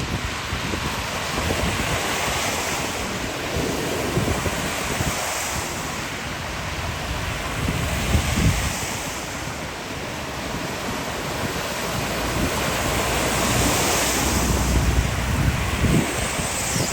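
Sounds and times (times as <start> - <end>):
heavy rain: 0.0 - 16.9
strong wind: 0.0 - 16.9
wind buffeting microphone: 0.0 - 16.9.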